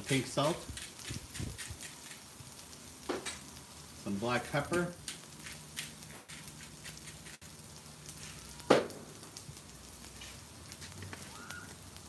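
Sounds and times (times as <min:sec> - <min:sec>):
pasta sizzling on a griddle: 0:00.0 - 0:12.0.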